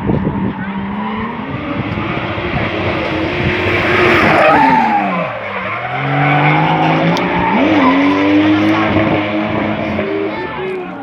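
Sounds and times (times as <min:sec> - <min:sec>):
car engine at high revs: 0:00.0 - 0:11.0
tyres skidding and squealing: 0:00.0 - 0:11.0.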